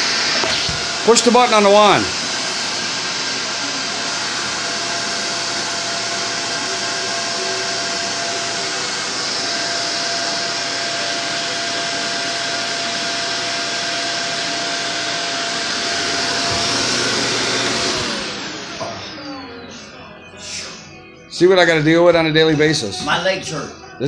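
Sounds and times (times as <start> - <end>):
vacuum motor spinning down: 0.0 - 19.8
vacuum cleaner motor whining: 0.0 - 20.7.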